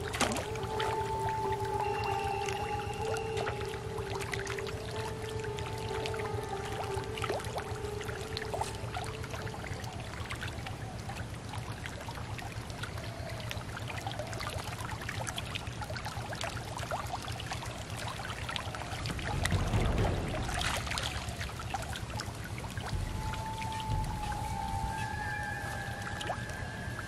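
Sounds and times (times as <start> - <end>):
pond water lapping and splashing: 0.0 - 27.0
water pouring and dripping off net: 0.0 - 27.0.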